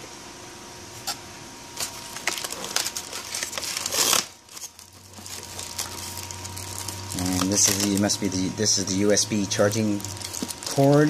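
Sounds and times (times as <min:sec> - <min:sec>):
plastic bag crinkling: 0:01.8 - 0:11.0.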